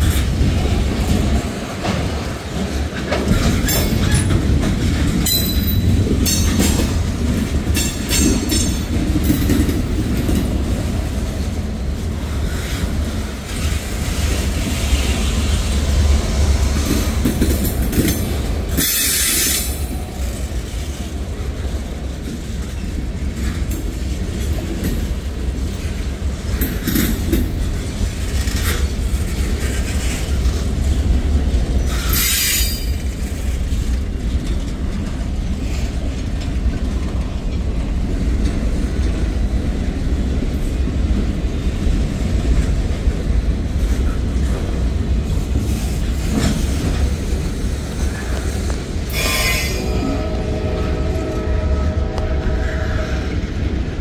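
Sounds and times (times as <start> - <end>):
wheels clacking over rail joints: 0.0 - 49.8
freight train rumbling: 0.0 - 54.0.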